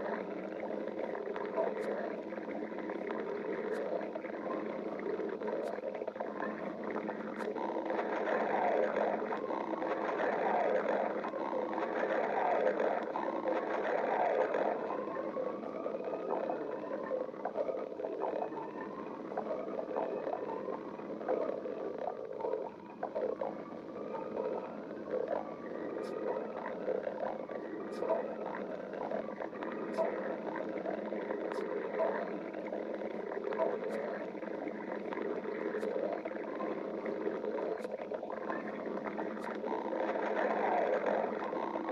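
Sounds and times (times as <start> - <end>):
stomach growling: 0.0 - 41.9.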